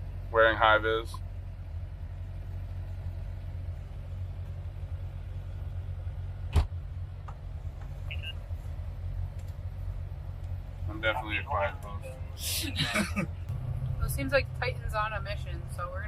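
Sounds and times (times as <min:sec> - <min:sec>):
vehicle engine low hum: 0:00.0 - 0:16.0.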